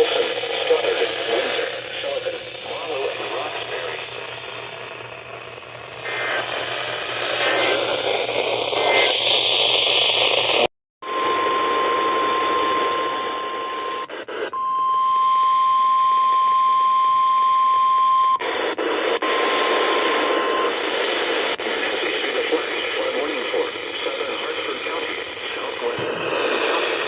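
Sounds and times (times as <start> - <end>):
radio static hiss: 0.0 - 14.5, 18.4 - 27.0.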